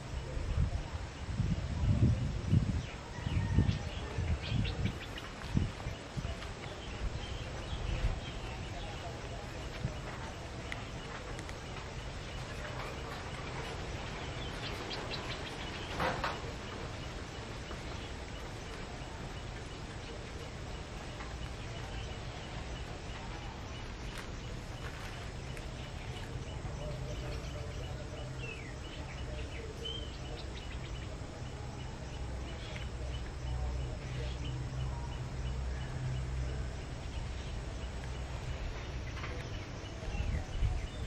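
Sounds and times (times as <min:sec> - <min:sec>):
low background noise: 0:00.0 - 0:41.0.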